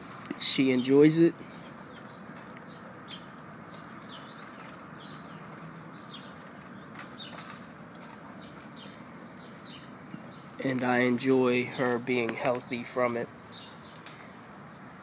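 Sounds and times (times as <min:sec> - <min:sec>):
small birds chirping: 0:00.0 - 0:15.0
steady outdoor hum: 0:00.0 - 0:15.0.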